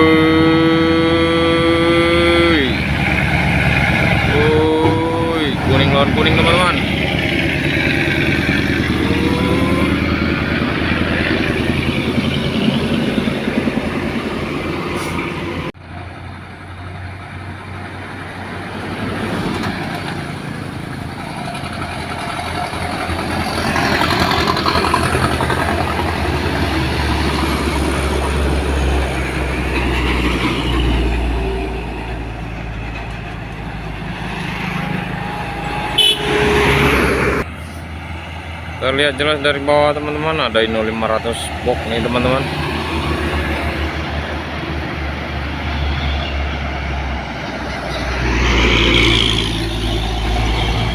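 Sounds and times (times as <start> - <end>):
diesel truck engines under load: 0.0 - 50.9
passing traffic: 0.0 - 50.9.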